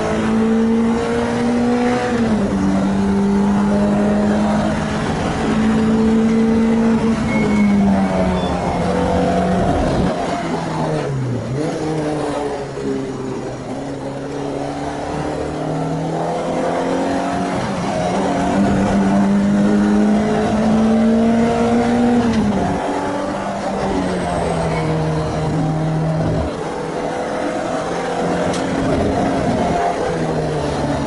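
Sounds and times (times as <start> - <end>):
car engine running hard: 0.0 - 31.0.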